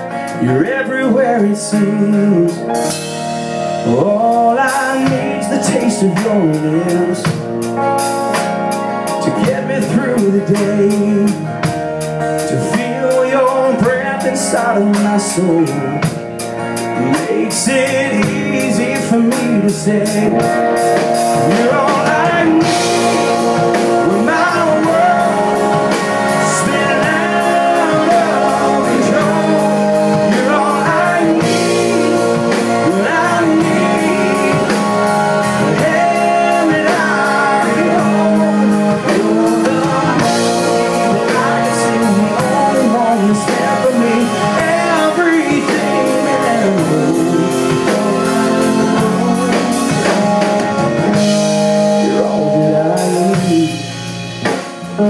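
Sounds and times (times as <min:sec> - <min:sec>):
drum kit: 0:00.0 - 0:55.0
guitar: 0:00.0 - 0:55.0
sliding lead melody: 0:00.0 - 0:55.0.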